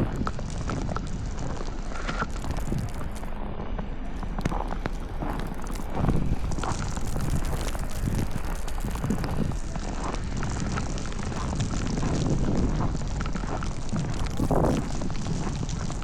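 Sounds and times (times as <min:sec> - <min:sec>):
faint clicks and crunches: 0:00.0 - 0:16.0
wind buffeting the microphone: 0:00.0 - 0:16.0.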